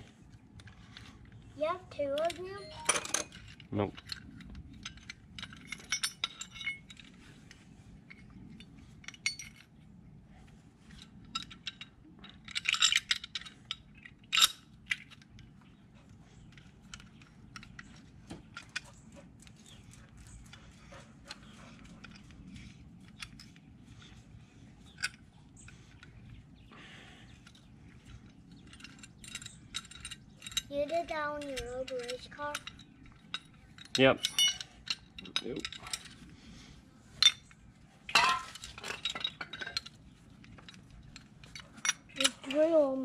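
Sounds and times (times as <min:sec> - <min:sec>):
metal tools clinking: 0:02.0 - 0:07.3, 0:08.1 - 0:09.8, 0:10.9 - 0:24.2, 0:27.3 - 0:36.2, 0:37.2 - 0:42.9.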